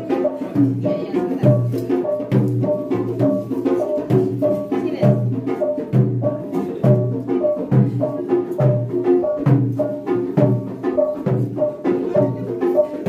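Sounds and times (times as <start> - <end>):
music with drum beat and percussion: 0.0 - 13.0.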